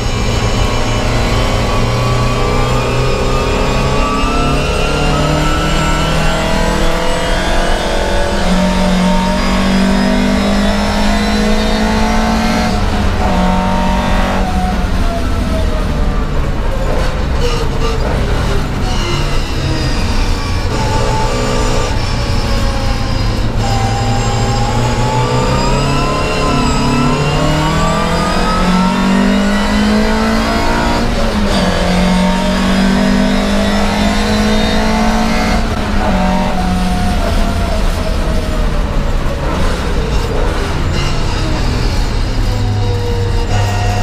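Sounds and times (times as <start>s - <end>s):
racing car engine revving: 0.0s - 44.0s.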